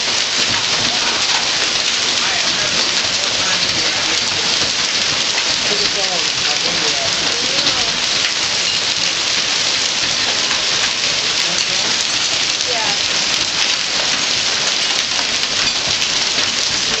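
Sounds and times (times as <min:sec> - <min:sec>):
hail and heavy rain pelting: 0:00.0 - 0:17.0.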